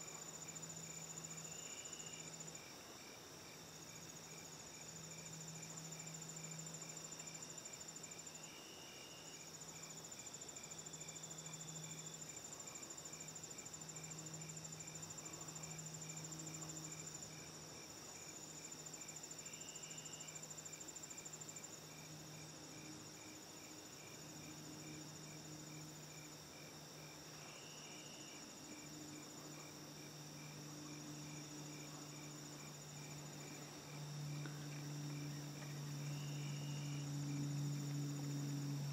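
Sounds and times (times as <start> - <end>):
cricket chirping in even pulse: 0.0 - 38.9
insects trilling: 0.0 - 38.9
low steady hum: 0.0 - 38.9.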